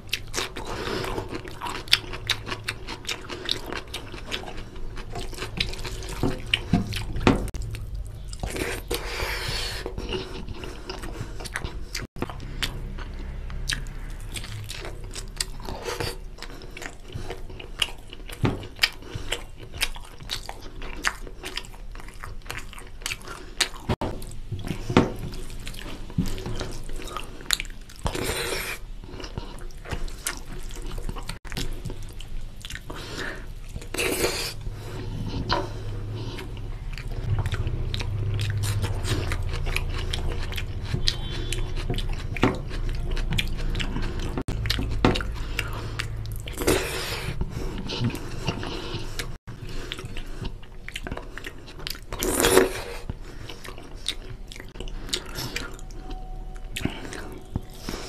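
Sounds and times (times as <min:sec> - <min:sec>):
steady low hum: 0:00.0 - 0:58.0
wet chewing and mouth clicks: 0:00.0 - 0:58.0.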